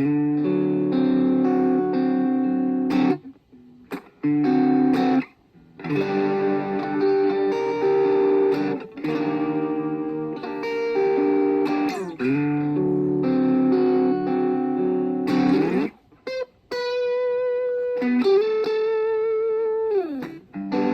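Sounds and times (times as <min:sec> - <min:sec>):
electric guitar chords: 0:00.0 - 0:20.9.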